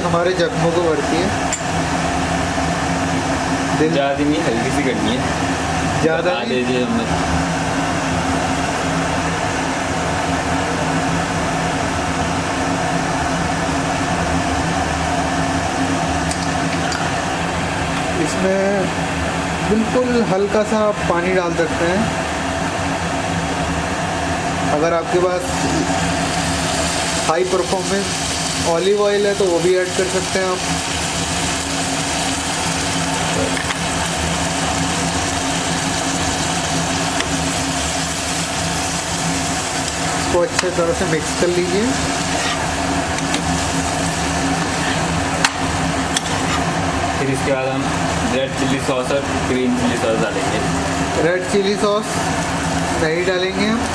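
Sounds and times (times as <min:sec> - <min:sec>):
electric fan motor hum: 0:00.0 - 0:53.9.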